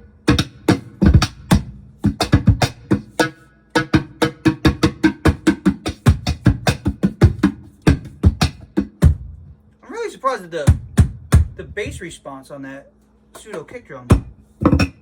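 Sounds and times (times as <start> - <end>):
cajon drum hits: 0.2 - 9.4, 10.6 - 12.2, 13.4 - 15.0.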